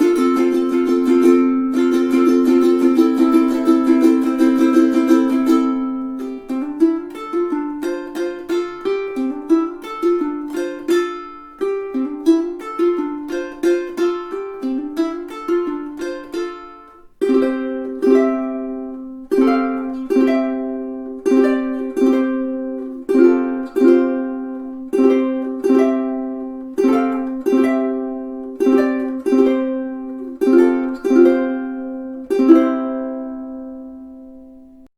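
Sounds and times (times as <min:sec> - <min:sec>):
ukulele strummed in slow chords: 0:00.0 - 0:34.9.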